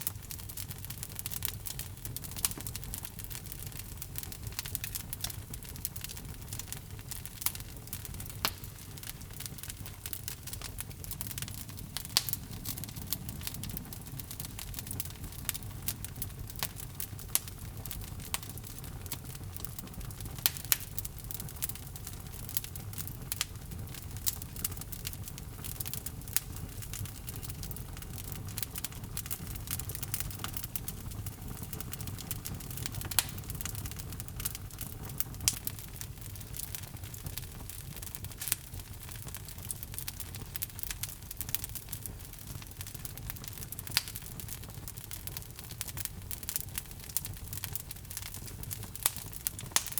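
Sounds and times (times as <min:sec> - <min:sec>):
logs crackling and popping: 0:00.0 - 0:49.9
low rumble of flames: 0:00.0 - 0:49.9.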